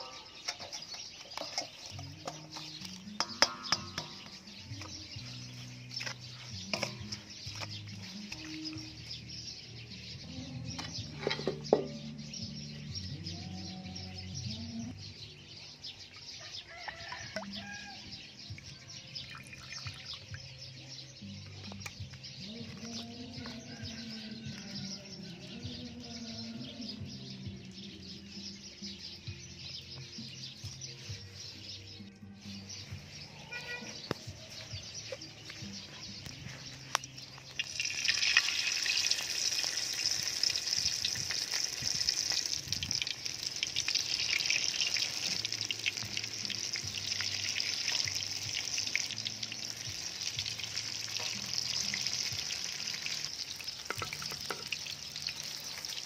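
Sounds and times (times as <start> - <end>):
birds chirping: 0.0 - 56.0
soft background music: 0.0 - 56.0.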